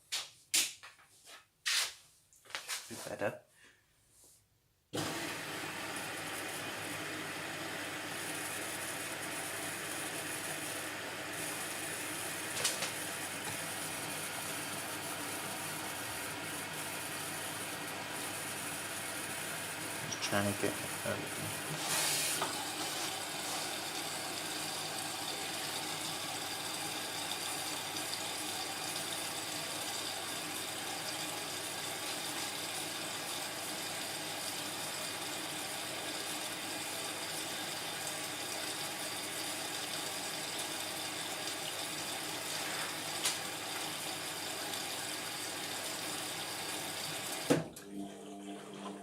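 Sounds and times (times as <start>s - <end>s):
water filling washing machine drum: 5.0s - 49.0s.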